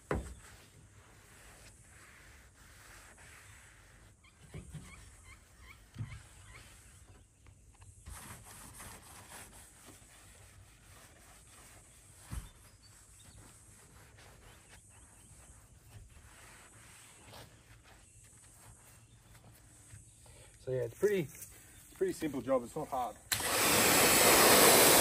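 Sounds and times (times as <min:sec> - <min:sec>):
outdoor ambience: 0:00.0 - 0:25.0.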